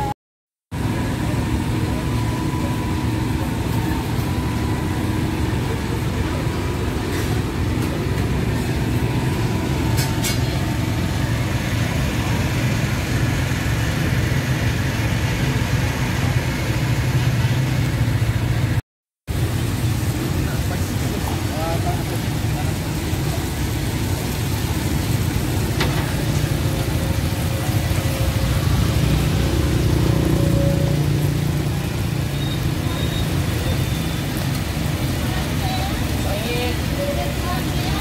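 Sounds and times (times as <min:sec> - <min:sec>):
street noise: 0:00.0 - 0:38.0
low engine hum: 0:00.8 - 0:38.0.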